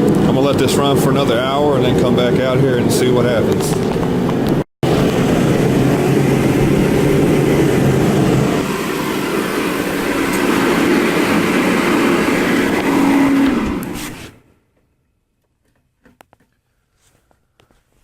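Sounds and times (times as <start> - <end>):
low hum: 0.0 - 14.4
heater fan and burner rushing: 0.0 - 14.5.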